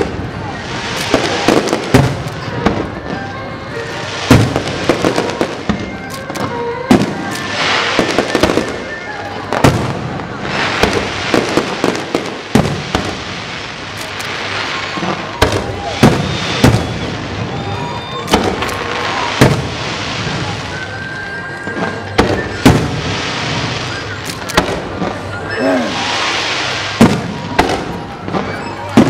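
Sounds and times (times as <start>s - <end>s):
fireworks bursting with sharp bangs: 0.0s - 29.0s
fireworks crackling: 0.0s - 29.0s.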